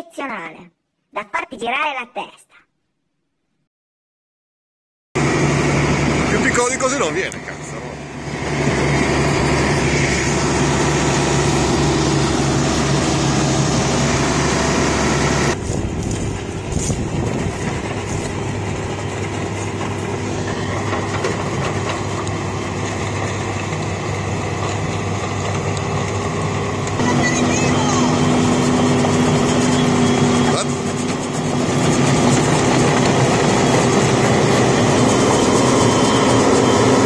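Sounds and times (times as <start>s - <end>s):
excavator diesel engine running: 5.2s - 37.0s.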